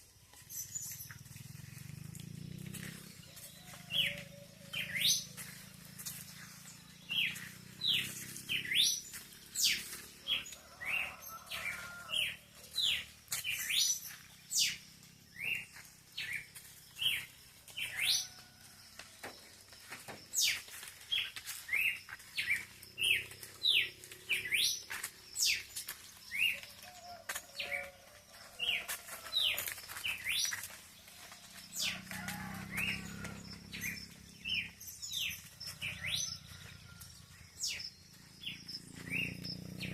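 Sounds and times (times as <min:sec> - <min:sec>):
birds chirping: 0:00.0 - 0:18.6, 0:19.2 - 0:39.9.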